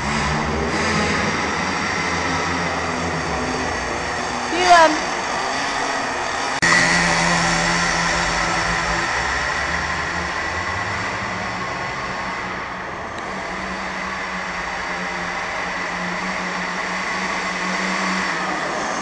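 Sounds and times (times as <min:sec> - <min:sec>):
small glow engine running steadily: 0:00.0 - 0:19.0.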